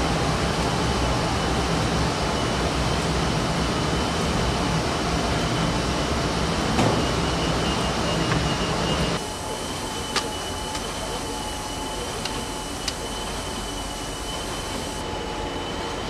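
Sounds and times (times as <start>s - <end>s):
printing press running: 0.0s - 16.0s.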